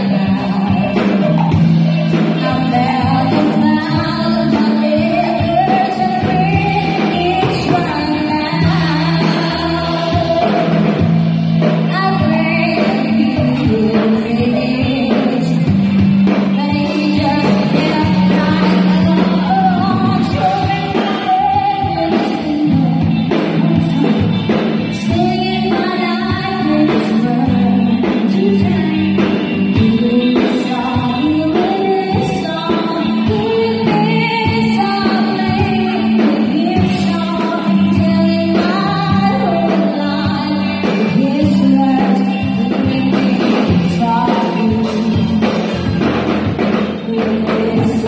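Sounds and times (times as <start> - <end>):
drum kit beat: 0.0 - 48.0
electric bass: 0.0 - 48.0
electric guitar: 0.0 - 48.0
woman singing: 0.0 - 48.0.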